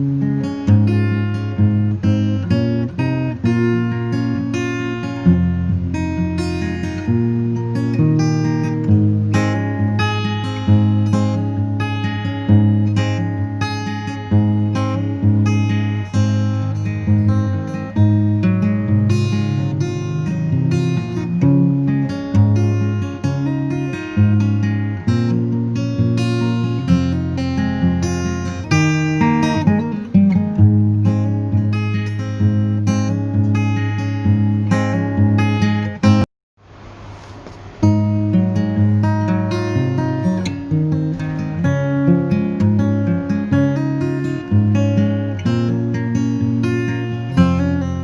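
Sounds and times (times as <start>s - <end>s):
strummed acoustic guitar: 0.0s - 48.0s.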